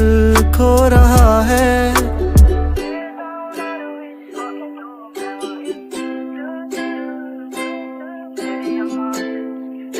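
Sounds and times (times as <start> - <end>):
instrumental pop music: 0.0 - 9.9
strummed plucked strings: 0.0 - 9.9.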